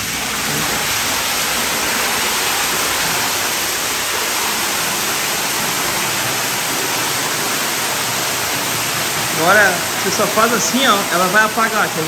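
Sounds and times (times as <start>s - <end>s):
water pouring into pool: 0.0s - 12.0s.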